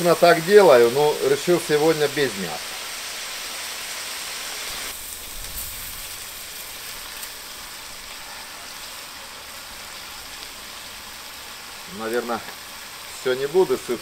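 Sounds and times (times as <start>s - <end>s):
hot fat sizzling: 0.0s - 14.0s.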